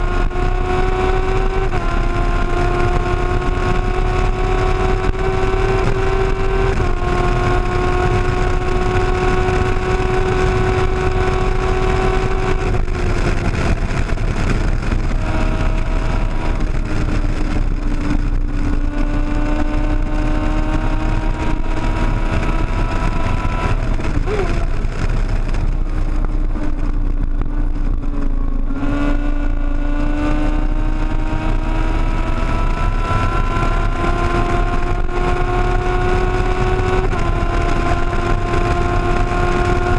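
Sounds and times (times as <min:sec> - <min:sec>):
loud wind rush: 0:00.0 - 0:39.9
sportbike engine running hard: 0:00.0 - 0:39.9.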